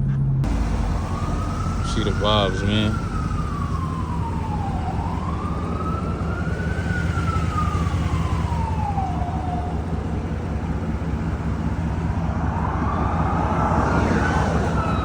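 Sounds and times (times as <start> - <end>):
vehicle engine droning: 0.0 - 15.0
siren wailing: 0.4 - 15.0.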